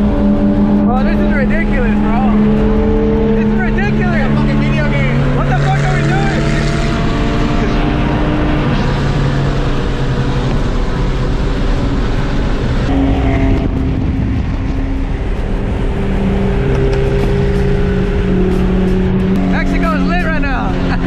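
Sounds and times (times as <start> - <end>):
car engine at highway speed: 0.0 - 21.0
road noise: 0.0 - 21.0.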